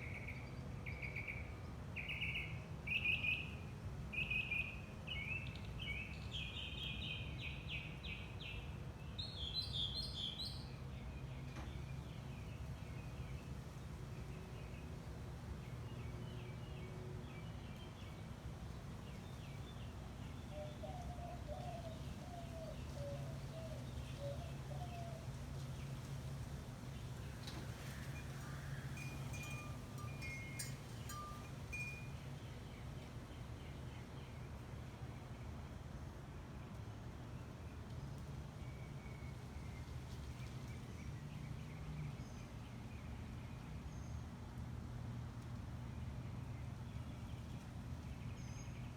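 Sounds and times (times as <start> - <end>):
low background hum: 0.0 - 48.9.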